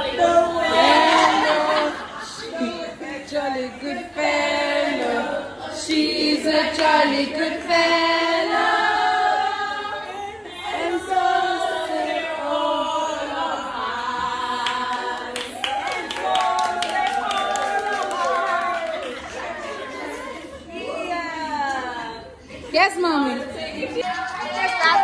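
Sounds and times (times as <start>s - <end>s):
women singing together: 0.0s - 25.0s.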